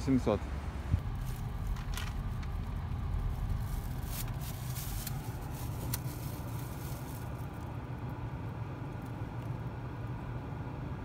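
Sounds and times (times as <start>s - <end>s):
electric car rumbling inside cabin: 0.1s - 11.0s.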